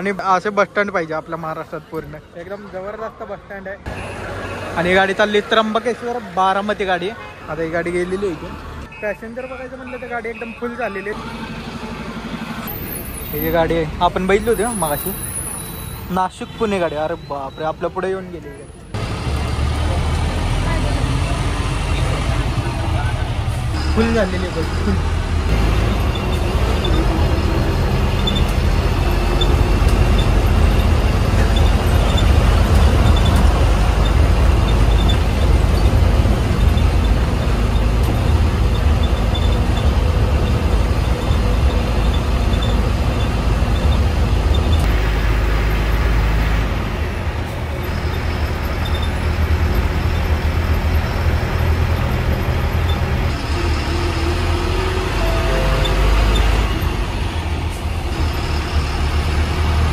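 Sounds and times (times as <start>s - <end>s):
diesel bus engine rumble: 7.5s - 16.0s, 18.4s - 59.9s.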